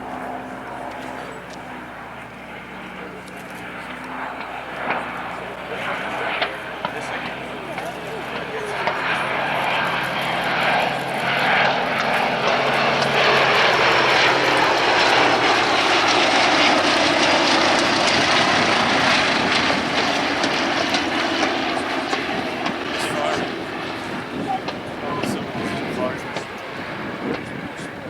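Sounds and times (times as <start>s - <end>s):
propeller aircraft engine droning: 0.0s - 28.0s.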